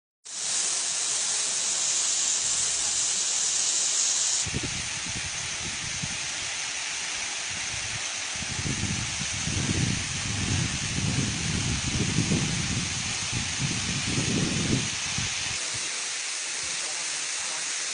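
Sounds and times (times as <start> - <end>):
waterfall rushing: 0.3 - 17.9.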